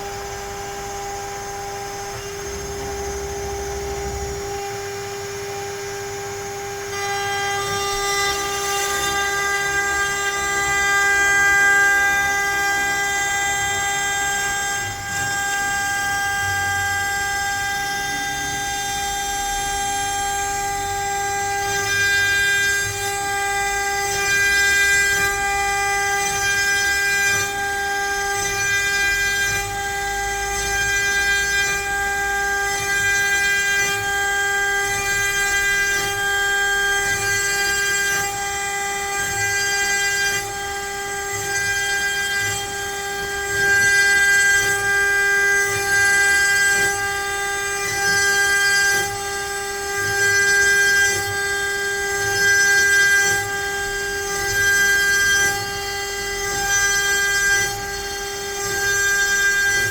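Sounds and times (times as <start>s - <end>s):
router spindle whining: 0.0s - 59.9s
bit cutting wood: 2.2s - 59.9s.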